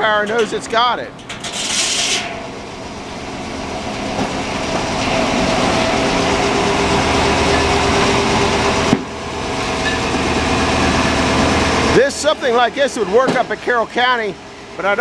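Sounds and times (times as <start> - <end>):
loud mechanical din: 0.0 - 13.8.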